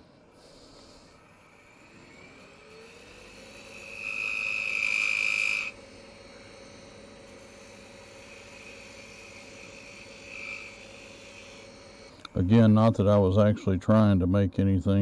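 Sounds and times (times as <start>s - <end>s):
wood lathe motor whine: 0.0s - 15.0s
tool cutting wood on lathe: 0.4s - 13.2s.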